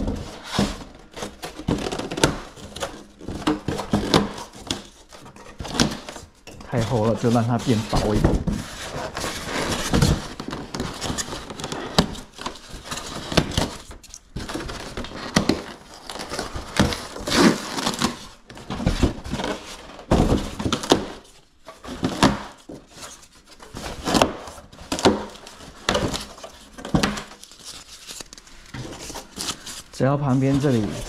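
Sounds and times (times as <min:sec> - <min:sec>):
foam and cardboard rustling: 0:00.0 - 0:31.0.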